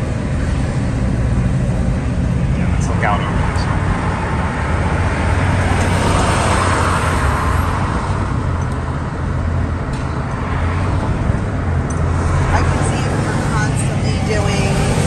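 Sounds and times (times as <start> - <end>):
low engine drone: 0.0 - 15.0
road noise inside vehicle: 0.0 - 15.0
traffic rush: 0.0 - 15.0.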